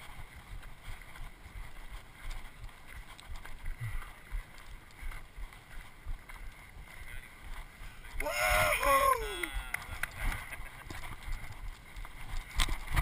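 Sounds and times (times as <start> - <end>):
footsteps on gravel: 0.0 - 13.0.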